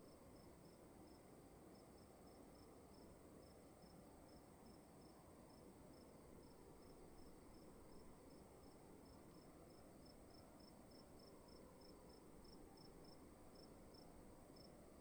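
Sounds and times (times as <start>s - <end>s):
crickets chirping: 0.0s - 15.0s
low room hiss: 0.0s - 15.0s.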